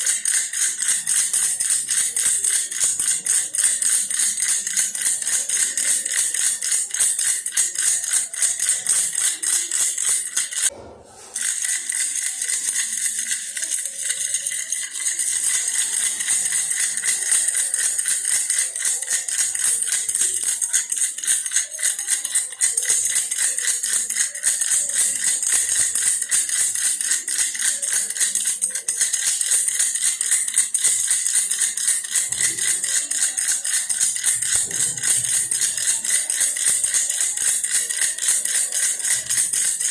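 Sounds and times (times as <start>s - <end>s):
toy rattle shaken: 0.0s - 39.9s.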